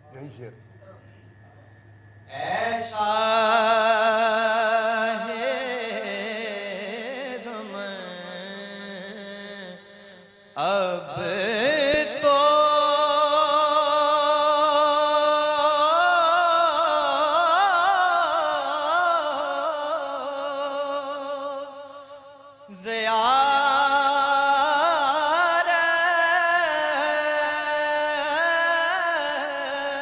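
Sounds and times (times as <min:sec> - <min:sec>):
man singing melismatic notes: 0:02.3 - 0:30.0.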